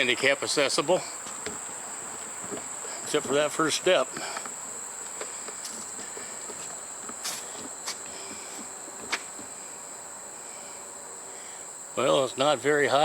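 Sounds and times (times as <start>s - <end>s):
insects calling high pitch: 0.0s - 13.0s.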